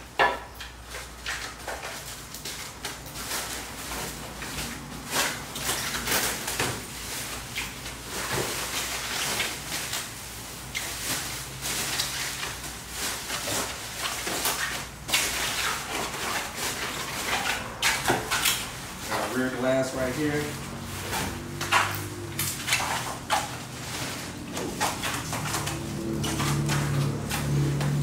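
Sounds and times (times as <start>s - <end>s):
packaging rustling and scraping: 0.6s - 28.0s.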